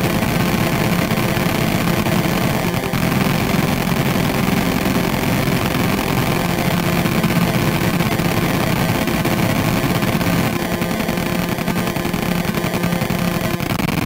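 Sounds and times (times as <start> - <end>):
distorted electronic noise: 0.0 - 14.0.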